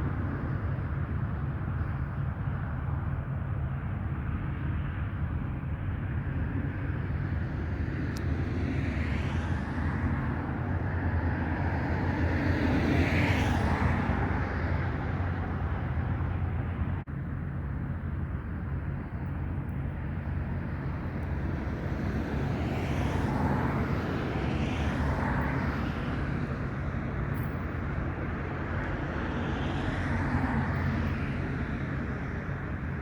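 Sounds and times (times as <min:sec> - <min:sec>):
propeller airplane passing by: 0:00.0 - 0:33.0.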